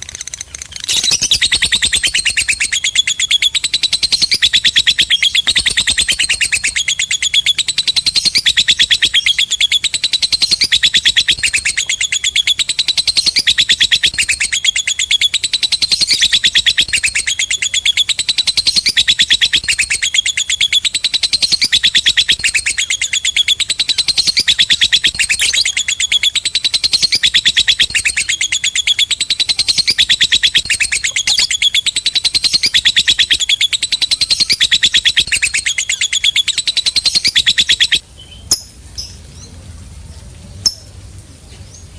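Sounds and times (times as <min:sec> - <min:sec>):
bird chattering trill: 0:00.0 - 0:38.7.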